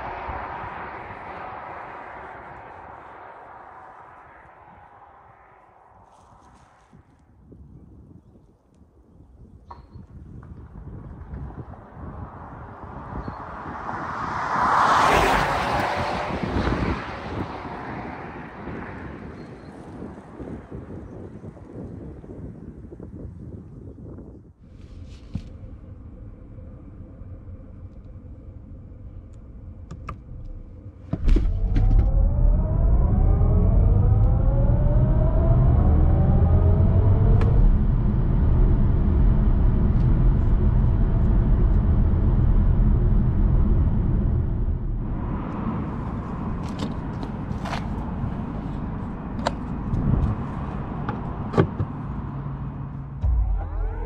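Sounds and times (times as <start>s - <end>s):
road rumble: 0.0s - 54.0s.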